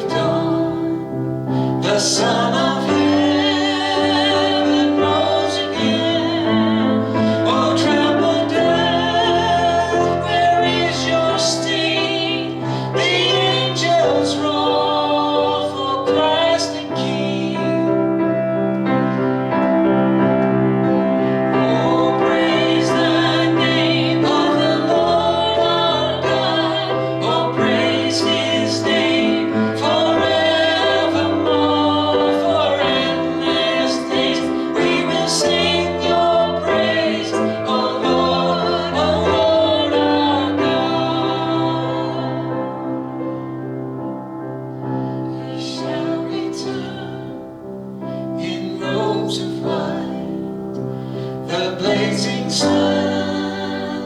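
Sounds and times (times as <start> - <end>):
voices singing with vibrato: 0.0 - 54.0.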